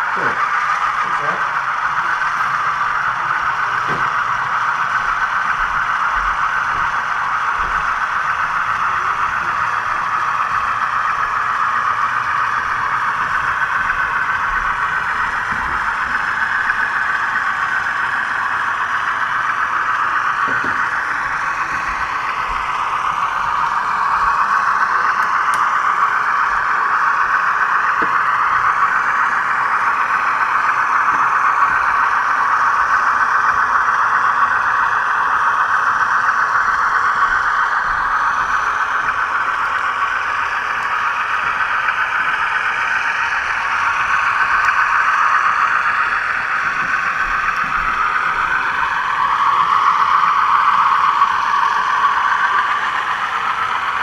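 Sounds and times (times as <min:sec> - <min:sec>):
model train motor whirring: 0:00.0 - 0:54.0.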